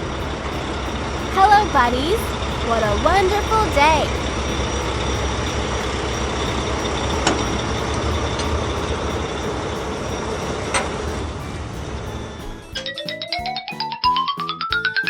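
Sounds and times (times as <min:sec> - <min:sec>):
heavy truck engine rumble: 0:00.0 - 0:13.5.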